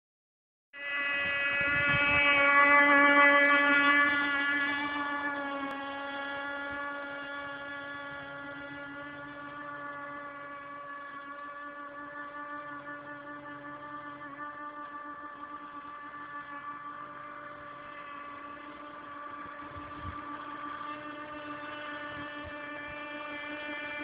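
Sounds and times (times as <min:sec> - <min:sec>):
toy boat motor running: 0:00.8 - 0:24.0.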